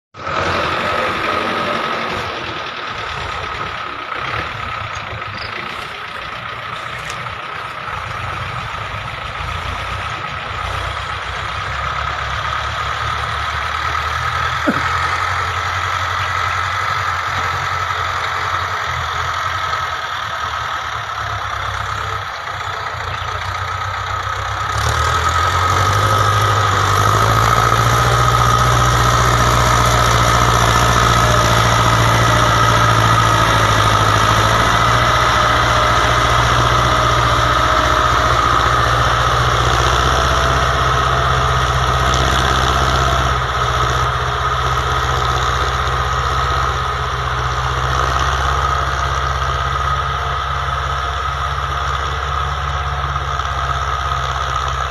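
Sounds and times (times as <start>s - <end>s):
tractor diesel engine running: 0.2s - 54.9s.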